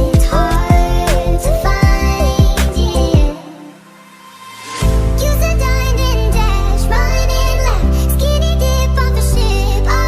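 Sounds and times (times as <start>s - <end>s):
sustained bass notes: 0.0s - 3.4s, 4.8s - 9.8s.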